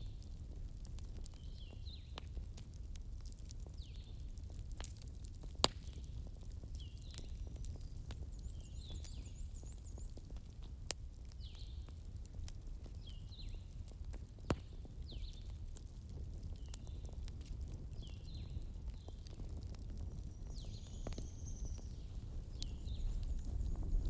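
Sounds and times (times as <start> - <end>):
campfire crackling: 0.0 - 24.0
sharp fire pops: 0.0 - 24.0.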